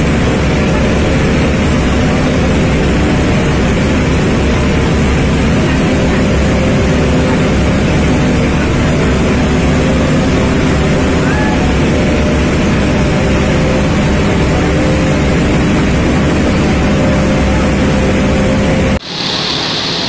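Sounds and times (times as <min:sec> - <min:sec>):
heavy engines roaring: 0:00.0 - 0:20.0
water cannons spraying: 0:00.0 - 0:20.0.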